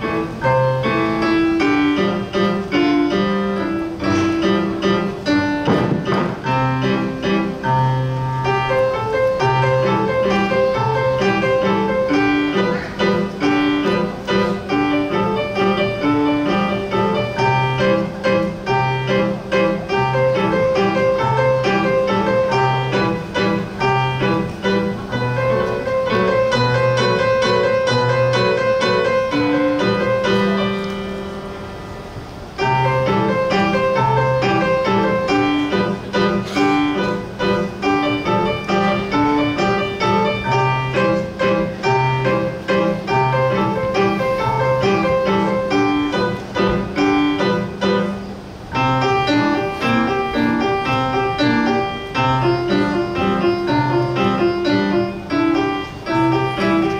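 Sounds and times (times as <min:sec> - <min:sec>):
solo piano waltz: 0:00.0 - 0:56.9.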